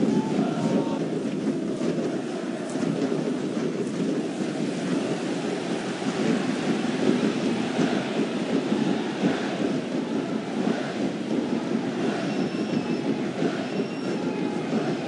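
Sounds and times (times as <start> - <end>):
stadium crowd voices: 0.0 - 15.0.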